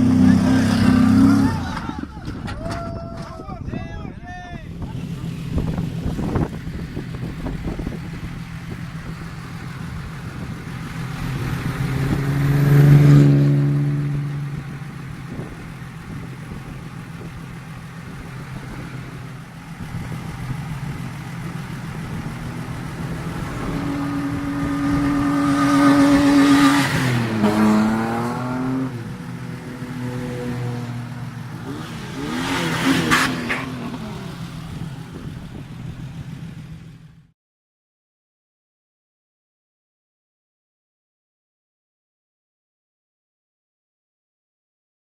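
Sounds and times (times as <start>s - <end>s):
off-road vehicle engines passing: 0.0s - 3.7s, 4.5s - 37.3s.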